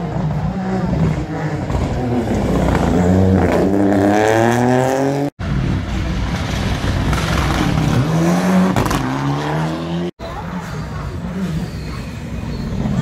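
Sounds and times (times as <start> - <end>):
rally car engine revving: 0.0 - 11.8.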